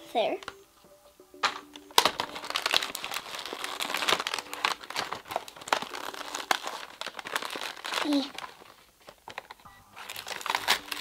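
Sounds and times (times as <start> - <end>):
plastic packaging crinkling: 1.5 - 11.0.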